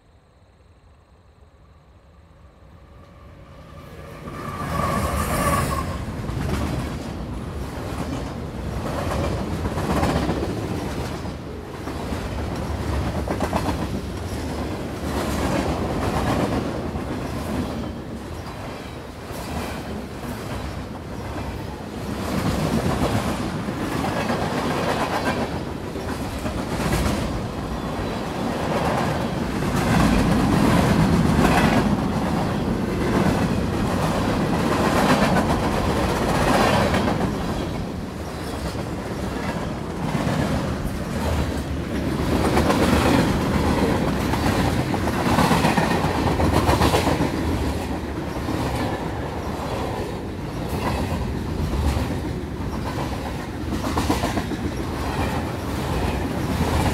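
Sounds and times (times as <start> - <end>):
diesel locomotive passing: 0.0 - 56.9.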